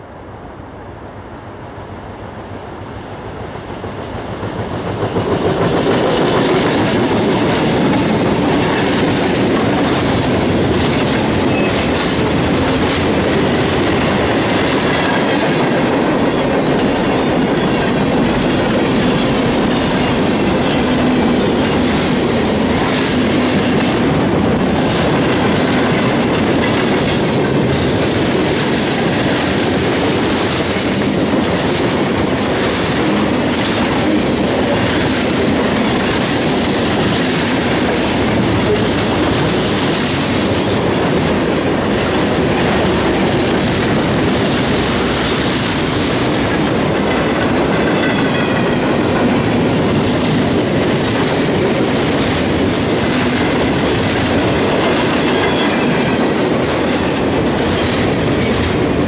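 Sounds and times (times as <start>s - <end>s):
diesel locomotives passing: 0.0s - 59.0s
train wheels clattering on rails: 2.4s - 59.0s.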